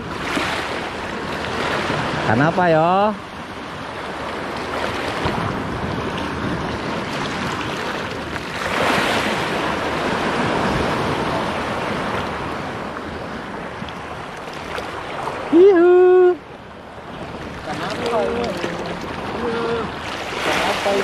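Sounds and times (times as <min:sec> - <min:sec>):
sea water washing: 0:00.0 - 0:21.0
wind buffeting microphone: 0:03.4 - 0:21.0.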